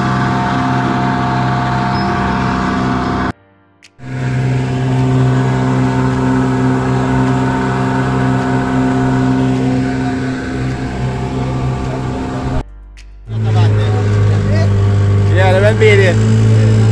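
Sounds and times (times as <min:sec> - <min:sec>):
boat engine running: 0:00.0 - 0:03.3, 0:04.0 - 0:16.9.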